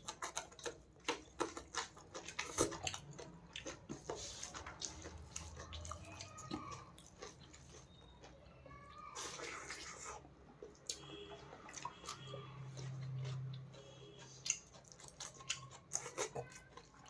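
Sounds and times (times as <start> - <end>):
chewing with wet mouth clicks: 0.0 - 17.0.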